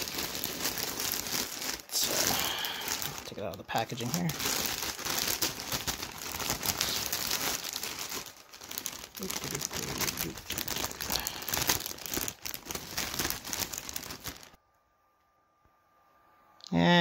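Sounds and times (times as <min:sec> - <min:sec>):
plastic bag crinkling: 0:00.0 - 0:14.6.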